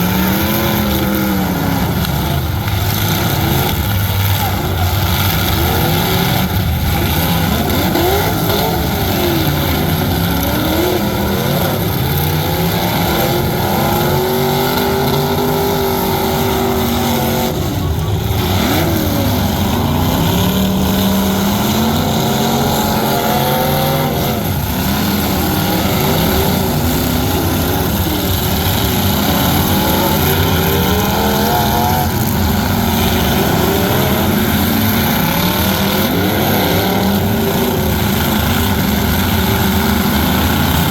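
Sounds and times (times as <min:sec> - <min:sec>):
truck engines revving: 0:00.0 - 0:40.9.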